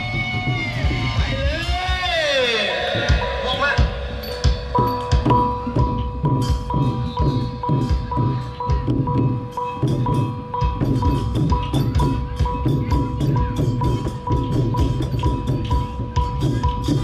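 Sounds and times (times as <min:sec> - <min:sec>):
drums playing a steady beat: 0:00.0 - 0:17.0
ringing metal strike: 0:02.8 - 0:17.0.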